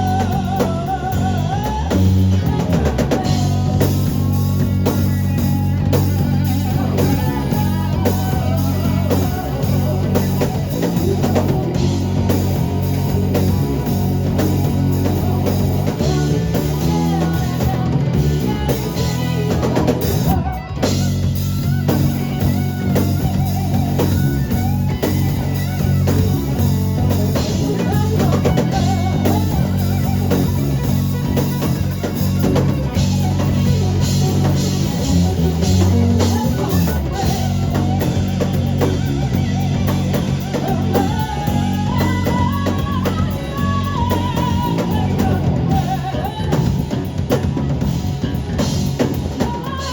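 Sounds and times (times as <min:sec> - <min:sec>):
rock band playing live: 0:00.0 - 0:49.9.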